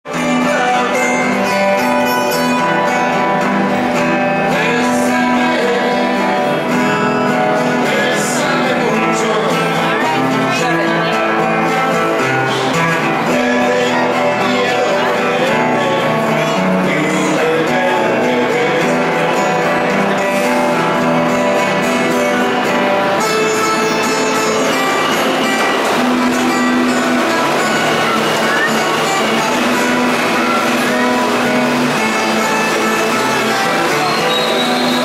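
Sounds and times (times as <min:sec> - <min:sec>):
acoustic-electric guitar: 0:00.0 - 0:35.0
electric guitar: 0:00.0 - 0:35.0.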